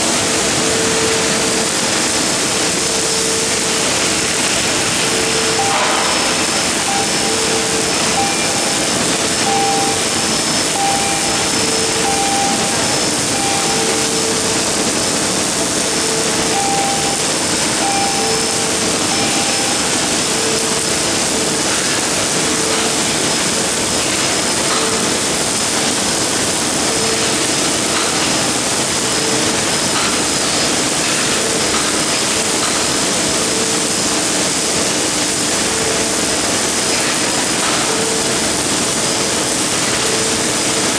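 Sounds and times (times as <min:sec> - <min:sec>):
faint machine hum: 0:00.0 - 0:40.9
welding arc hissing and crackling: 0:00.0 - 0:40.9.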